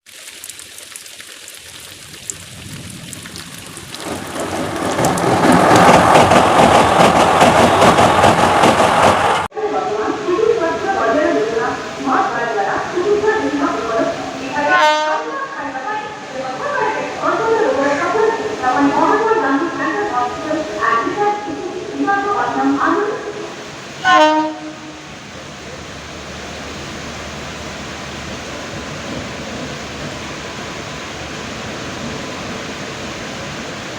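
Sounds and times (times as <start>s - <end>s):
train rumbling: 2.2s - 33.9s.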